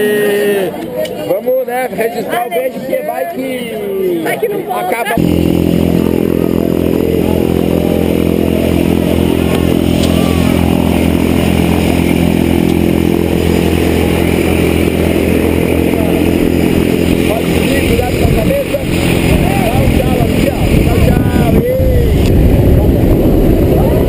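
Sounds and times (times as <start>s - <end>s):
plane engine and propeller drone: 4.2s - 24.0s.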